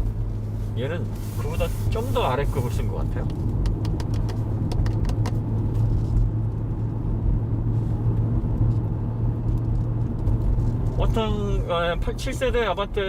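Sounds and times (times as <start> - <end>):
car engine and tyre rumble: 0.0 - 13.0
constant low hum: 0.0 - 13.0.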